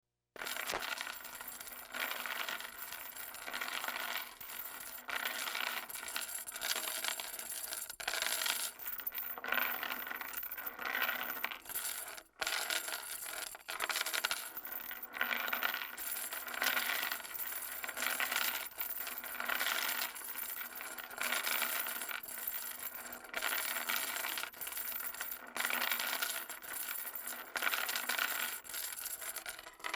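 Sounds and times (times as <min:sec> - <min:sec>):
metal chain dragged on concrete: 0:00.4 - 0:29.9.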